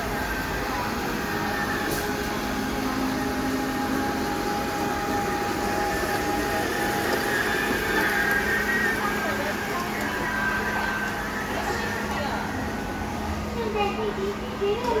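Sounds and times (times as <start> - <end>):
floor-scrubbing robot humming: 0.1 - 15.0
whining tones: 1.3 - 13.6.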